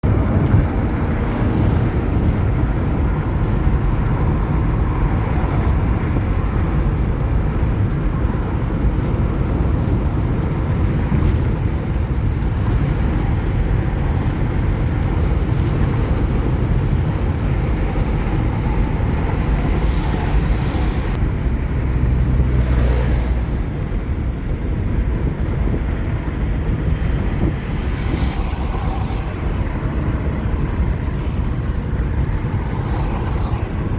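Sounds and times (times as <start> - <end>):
car road and engine rumble: 0.0 - 33.9.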